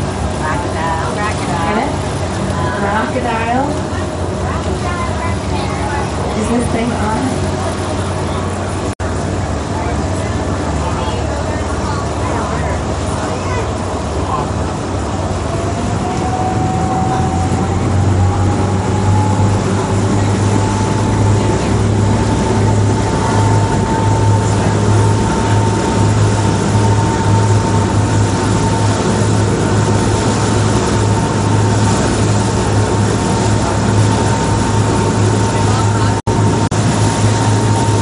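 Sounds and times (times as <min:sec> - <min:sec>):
boat engine drone: 0:00.0 - 0:38.0
rising whine: 0:00.0 - 0:38.0
water noise: 0:00.0 - 0:38.0
wind: 0:00.0 - 0:38.0.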